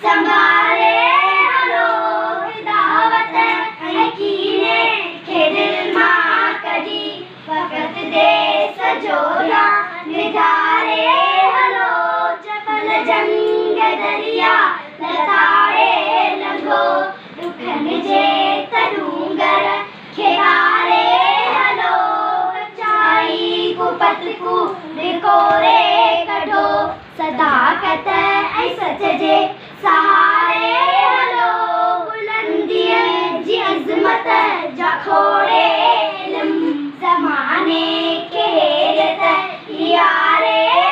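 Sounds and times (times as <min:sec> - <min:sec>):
young girls singing: 0:00.0 - 0:40.9.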